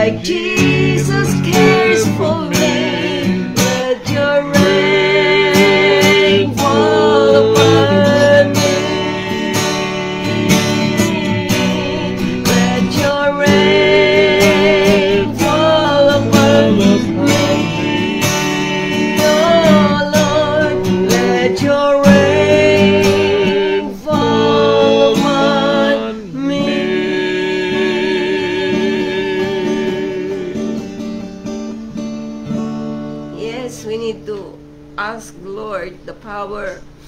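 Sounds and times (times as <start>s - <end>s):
woman and man singing: 0.0s - 31.2s
strummed acoustic guitar: 0.0s - 37.0s.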